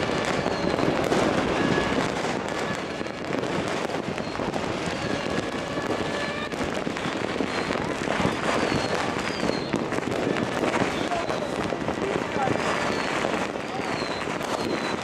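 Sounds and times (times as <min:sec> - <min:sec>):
firework whistles: 0:00.0 - 0:15.0
fireworks crackling and banging: 0:00.0 - 0:15.0.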